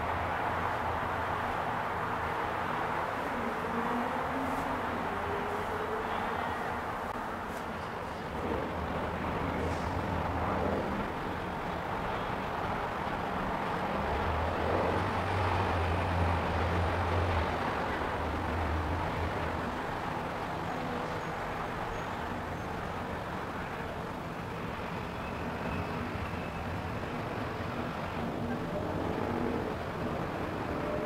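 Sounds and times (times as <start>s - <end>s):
engine rumble: 0.0s - 31.0s.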